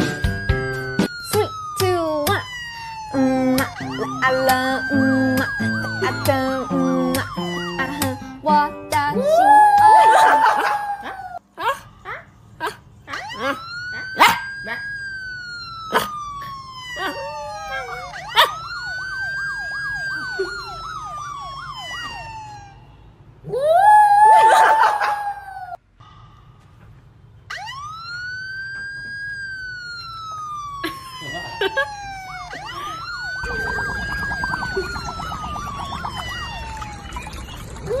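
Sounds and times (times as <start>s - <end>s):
police siren wailing: 0.0s - 11.4s, 13.1s - 25.8s, 27.5s - 38.0s
siren yelp: 0.0s - 11.4s, 13.0s - 25.8s, 27.5s - 38.0s.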